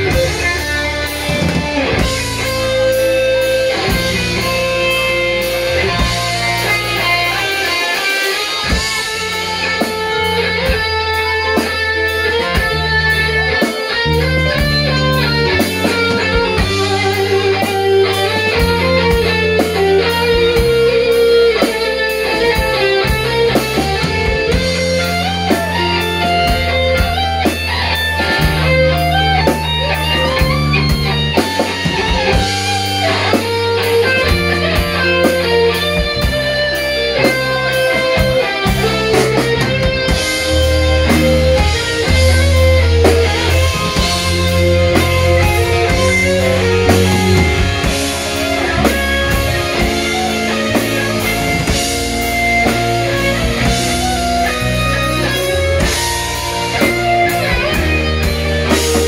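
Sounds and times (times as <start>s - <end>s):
drum kit: 0.0s - 59.0s
electric guitar: 0.0s - 59.0s
low bass notes: 0.0s - 59.0s.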